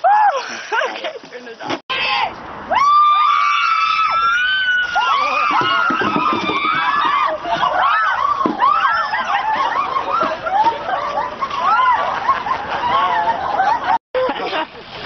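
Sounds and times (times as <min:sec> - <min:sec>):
women shrieking and screaming: 0:00.0 - 0:00.7, 0:02.0 - 0:14.0.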